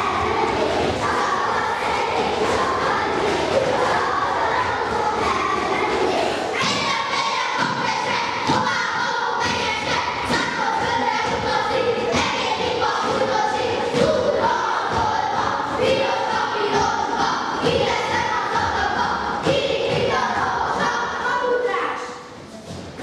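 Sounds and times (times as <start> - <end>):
children singing a folk song: 0.0 - 22.8.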